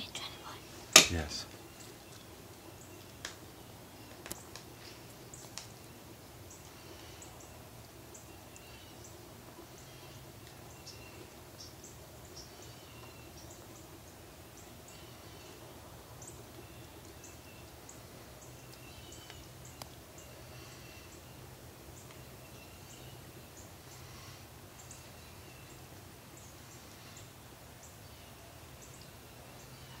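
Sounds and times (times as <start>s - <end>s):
distant small birds chirping: 0.0s - 30.0s.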